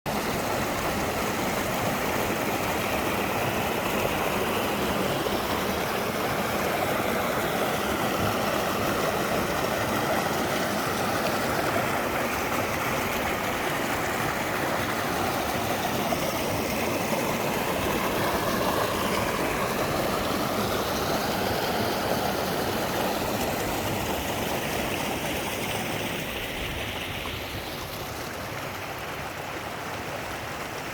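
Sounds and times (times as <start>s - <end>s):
stream water flowing: 0.1s - 30.9s.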